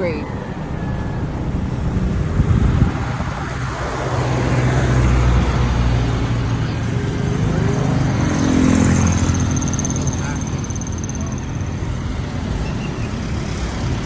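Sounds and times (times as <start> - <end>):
tyre and road noise: 0.0 - 14.0
vehicle engine hum: 0.0 - 14.0.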